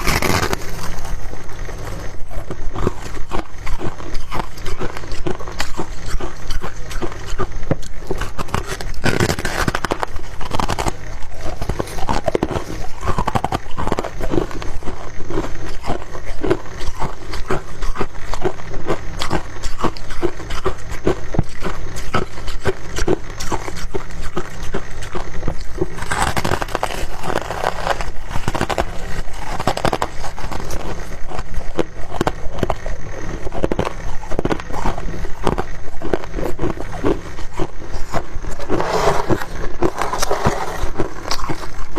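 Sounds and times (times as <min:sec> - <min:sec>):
frost crunching: 0:00.0 - 0:41.9.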